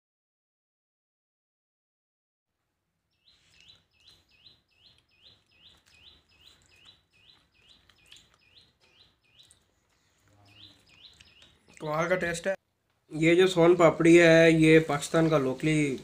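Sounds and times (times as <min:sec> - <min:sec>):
bird chirping: 0:03.1 - 0:16.0.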